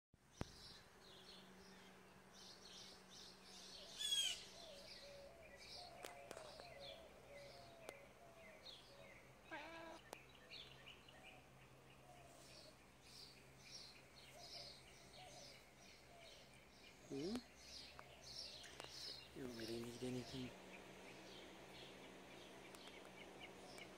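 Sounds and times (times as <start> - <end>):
birds chirping: 0.3 - 23.9.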